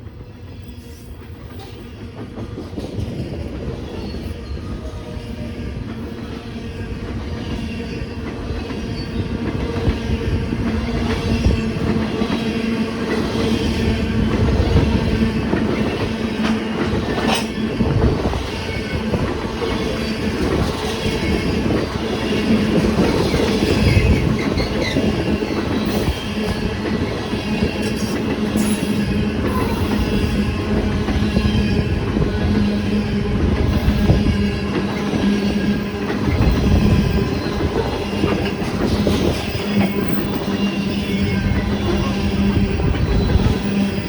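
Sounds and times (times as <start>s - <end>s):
train wheels on rails: 0.0s - 44.0s
wind buffeting microphone: 1.1s - 44.0s.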